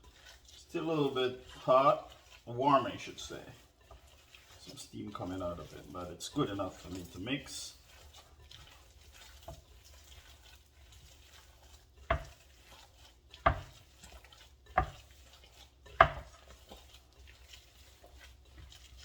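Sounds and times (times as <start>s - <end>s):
food mixed by hand in bowl: 0.0s - 19.0s.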